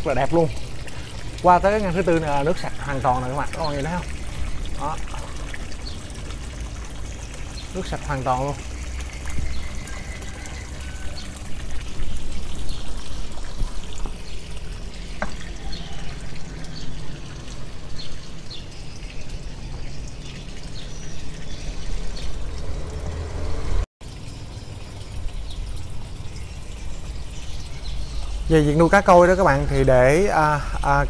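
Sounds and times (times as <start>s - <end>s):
water splashing into pond: 0.0s - 31.0s.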